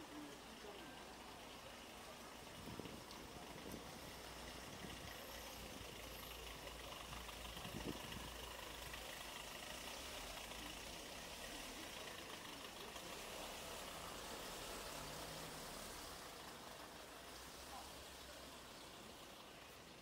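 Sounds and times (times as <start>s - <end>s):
faint traffic hum: 0.0s - 20.0s.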